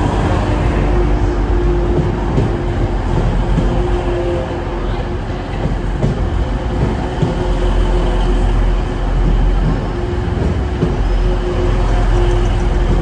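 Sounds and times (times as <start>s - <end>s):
diesel train rumbling: 0.0s - 13.0s.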